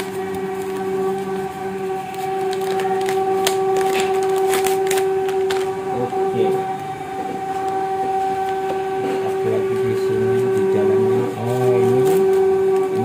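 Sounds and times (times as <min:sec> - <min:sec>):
packaging crinkling: 0:00.0 - 0:13.0
steady hum: 0:00.0 - 0:13.0.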